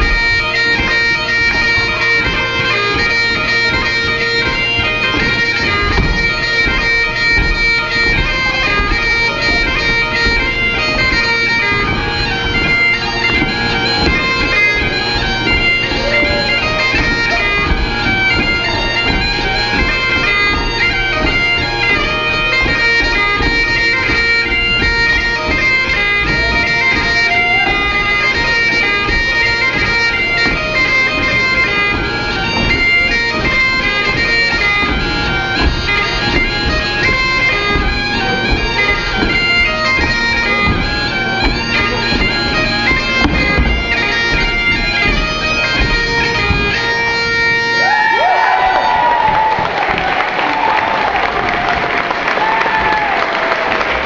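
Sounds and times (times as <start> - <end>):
bagpipes playing a dance tune: 0.0 - 54.0.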